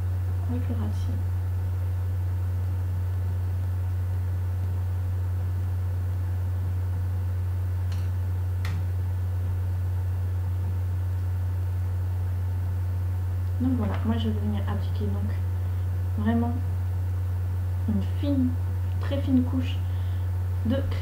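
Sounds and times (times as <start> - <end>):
steady low hum with hiss: 0.0 - 21.0.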